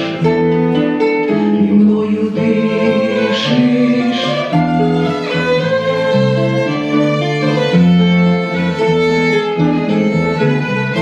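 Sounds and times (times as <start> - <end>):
strummed acoustic guitar: 0.0 - 11.0
violin melody: 0.0 - 11.0.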